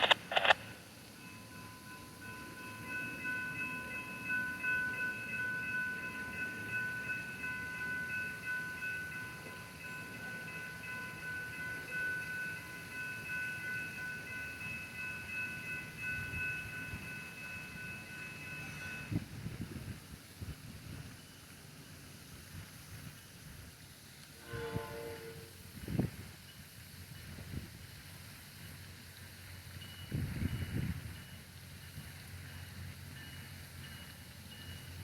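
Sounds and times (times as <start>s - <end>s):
railroad warning bell ringing: 0.0s - 19.9s, 24.4s - 27.7s, 28.4s - 35.0s
train rumbling: 0.0s - 35.0s.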